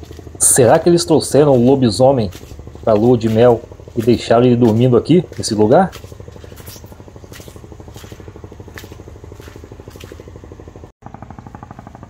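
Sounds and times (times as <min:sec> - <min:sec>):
footsteps crunching on dirt: 0:00.0 - 0:10.9
steady low hum: 0:00.0 - 0:12.0.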